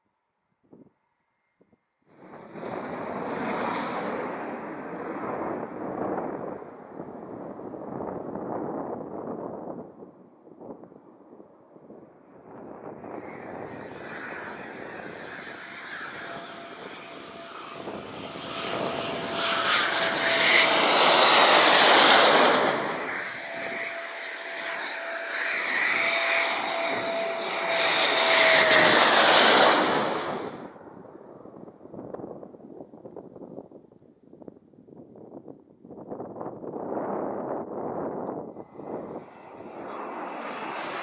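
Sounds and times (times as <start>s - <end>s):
jet engine whine: 2.1s - 41.0s
jets passing overhead: 2.2s - 32.5s, 37.8s - 41.0s.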